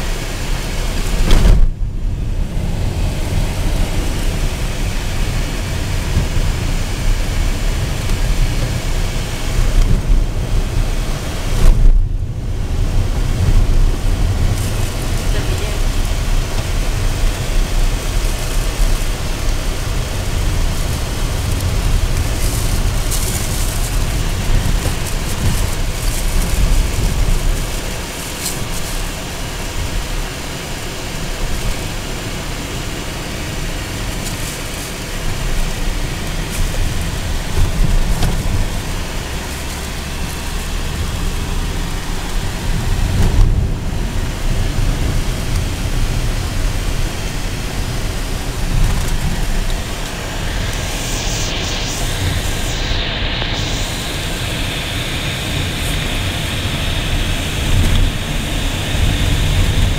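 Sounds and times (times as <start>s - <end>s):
road and engine noise in car: 0.0s - 59.9s.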